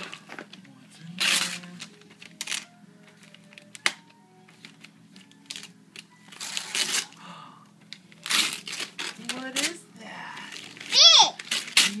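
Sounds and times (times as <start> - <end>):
wrapping paper crinkling: 0.0 - 7.3, 7.9 - 12.0.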